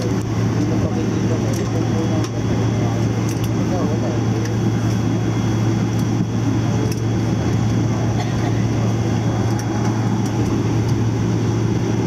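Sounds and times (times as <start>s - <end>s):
aircraft cabin hum and rumble: 0.0s - 12.0s.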